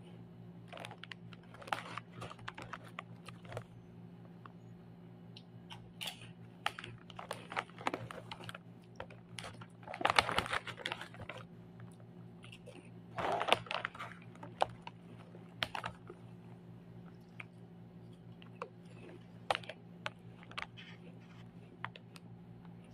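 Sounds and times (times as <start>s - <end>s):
plastic chip bag crinkling: 0.6s - 3.8s, 5.7s - 22.2s.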